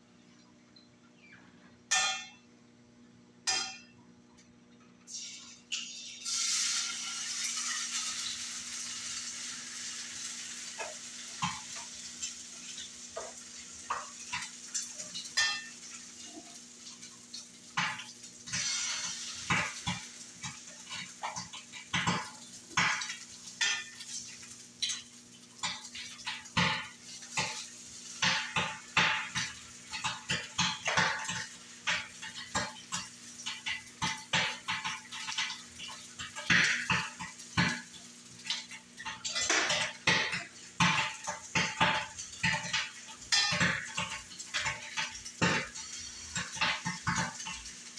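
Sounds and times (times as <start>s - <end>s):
food sizzling in skillet: 5.1s - 47.9s.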